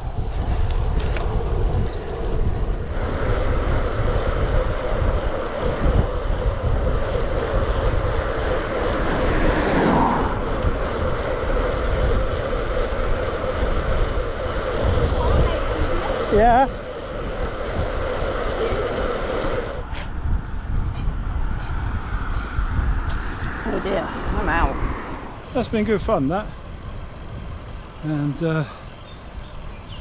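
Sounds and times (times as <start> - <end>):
road noise: 0.0 - 30.0
wind buffeting microphone: 0.0 - 30.0.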